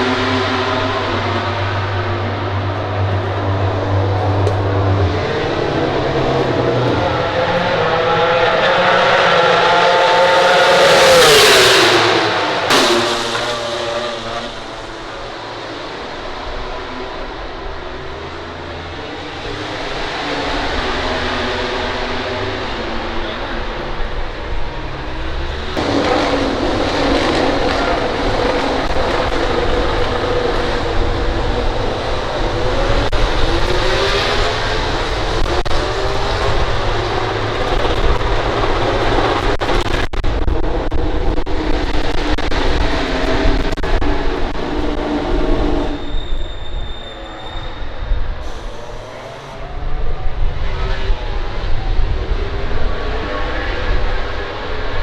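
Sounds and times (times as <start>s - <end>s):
racing motorcycle passing at high revs: 0.0s - 46.0s.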